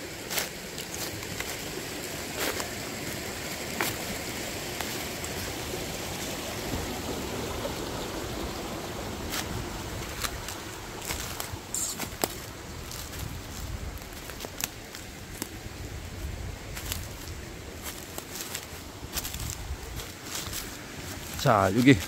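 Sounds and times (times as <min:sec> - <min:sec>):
footsteps on dry leaves: 0:00.0 - 0:06.6, 0:08.7 - 0:22.0
stream running: 0:00.0 - 0:22.0.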